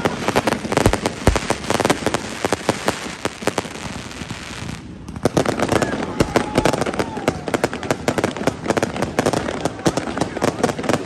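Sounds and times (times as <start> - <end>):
deep fireworks booms: 0.0 - 11.0
fireworks crackling pops: 0.0 - 11.0.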